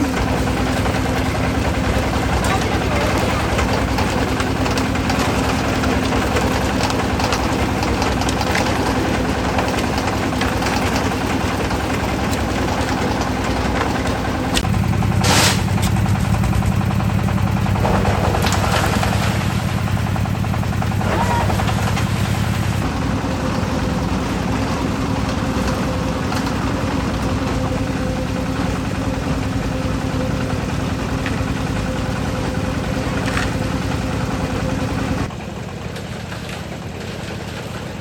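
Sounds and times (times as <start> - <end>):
concrete mixer engine rattling: 0.0 - 38.0.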